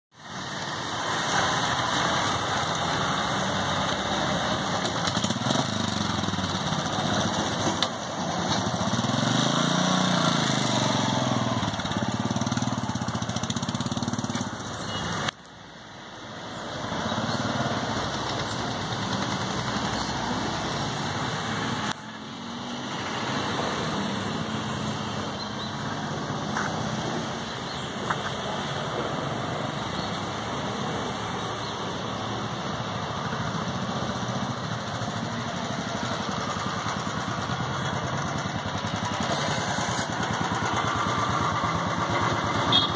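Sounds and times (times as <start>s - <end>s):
motorcycle engine revving: 1.0s - 15.3s, 16.8s - 27.9s, 33.2s - 42.9s.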